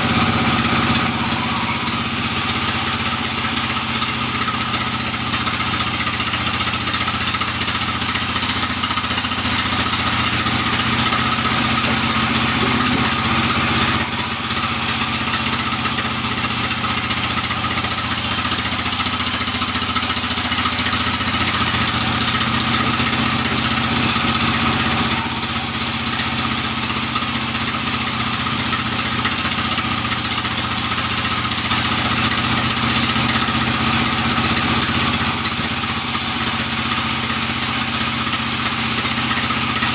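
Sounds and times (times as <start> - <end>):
saw cutting log hiss: 0.0 - 39.9
sawmill saw engine drone: 0.0 - 39.9.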